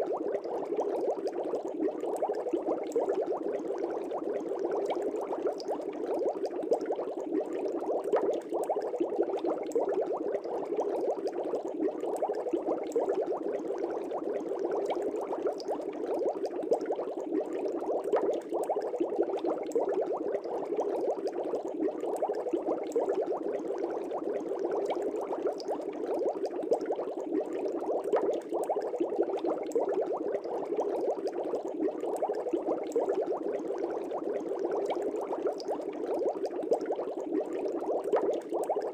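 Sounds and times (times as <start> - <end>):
air bubbles in a fish tank: 0.0 - 38.9.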